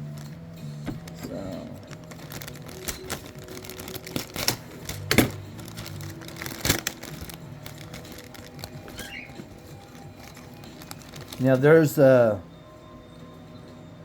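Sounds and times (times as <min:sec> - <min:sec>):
plastic parts clicking and rustling: 0:00.0 - 0:11.7.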